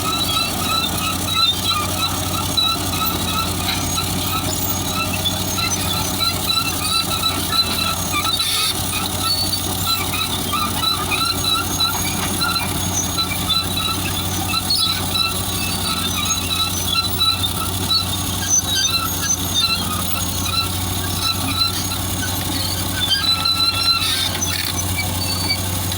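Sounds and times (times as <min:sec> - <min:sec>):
bulldozer diesel engine running: 0:00.0 - 0:25.9
tracks squeaking: 0:00.0 - 0:25.9.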